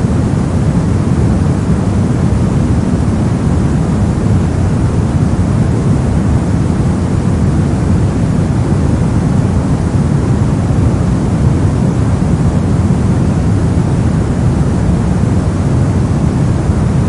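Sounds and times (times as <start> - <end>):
brown noise rumbling hiss: 0.0 - 17.0.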